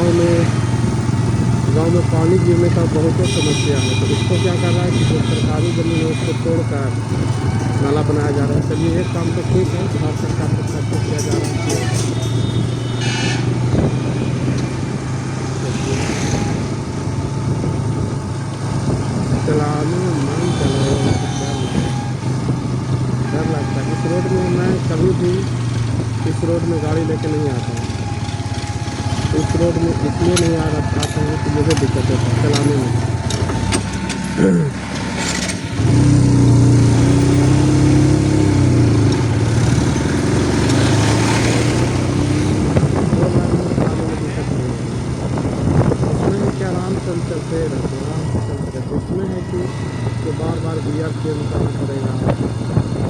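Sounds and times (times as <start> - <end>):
motorcycle engine humming: 0.0 - 53.0
road noise: 0.0 - 53.0.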